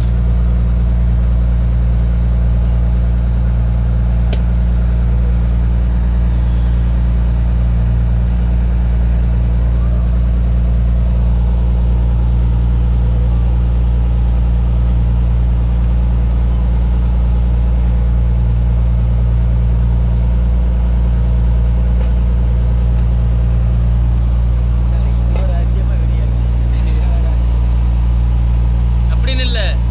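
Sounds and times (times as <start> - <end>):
boat engine droning: 0.0 - 29.9
thin high whine: 0.0 - 29.9.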